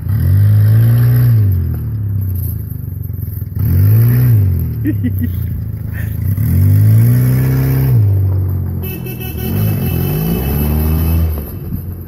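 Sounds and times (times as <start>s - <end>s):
small car engine revving: 0.0s - 12.0s.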